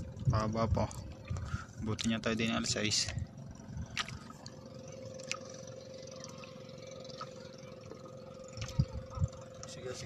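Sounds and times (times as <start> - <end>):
faint steady hum: 0.0 - 10.0
water and wind rumble: 0.0 - 10.0.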